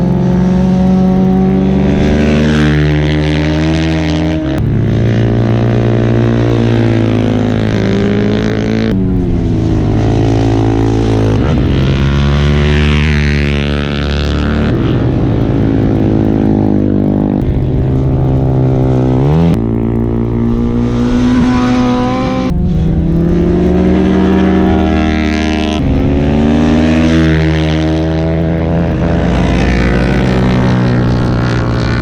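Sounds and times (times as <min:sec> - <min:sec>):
superbike engines revving: 0:00.0 - 0:32.0.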